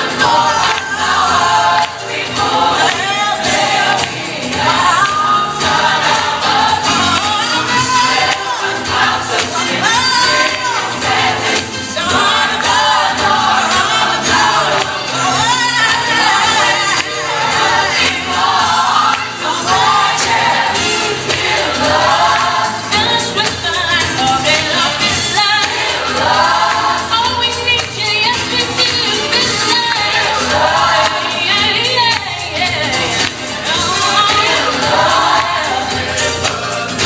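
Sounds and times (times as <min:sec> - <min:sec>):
gospel choir singing: 0:00.0 - 0:37.0
musical backing: 0:00.0 - 0:37.0.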